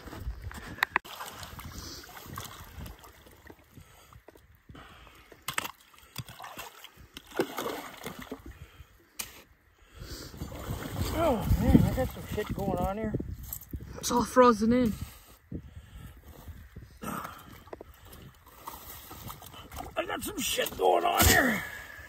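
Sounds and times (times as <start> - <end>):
water splashing and sloshing: 0.0 - 15.4, 16.0 - 22.0.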